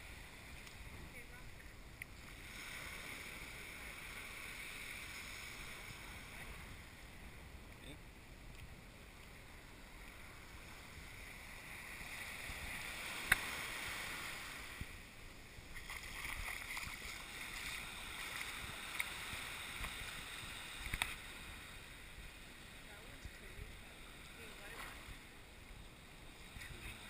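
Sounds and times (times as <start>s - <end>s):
small waves washing on shore: 0.0s - 27.0s.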